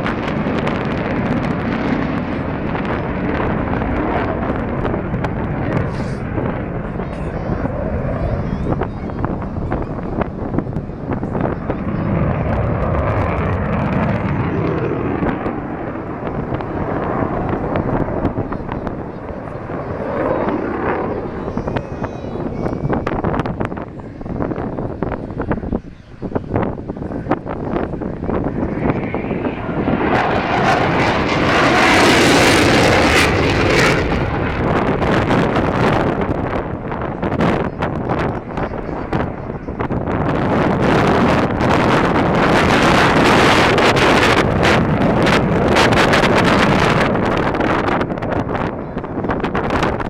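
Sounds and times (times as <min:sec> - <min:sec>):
jet flying past: 0:00.0 - 0:50.0.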